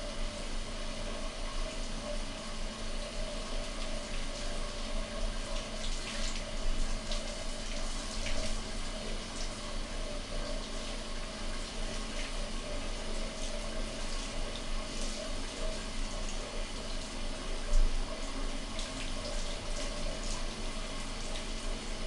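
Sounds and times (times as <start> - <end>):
running water: 0.8 - 22.0
hands washing wet cat: 3.5 - 22.0.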